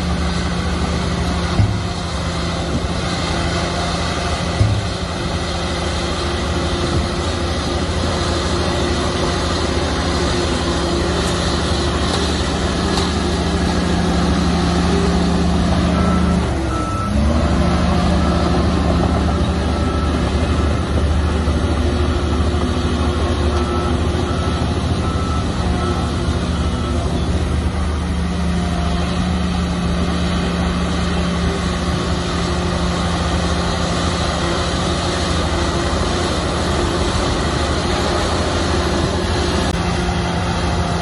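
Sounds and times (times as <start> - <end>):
bulldozer diesel engine running: 0.0 - 41.0
reversing alarm beeping: 7.8 - 41.0.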